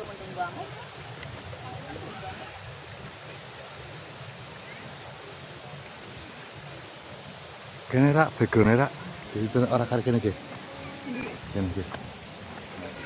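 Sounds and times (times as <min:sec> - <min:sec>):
faint distant voices: 0:00.0 - 0:13.0
outdoor background hiss: 0:00.0 - 0:13.0.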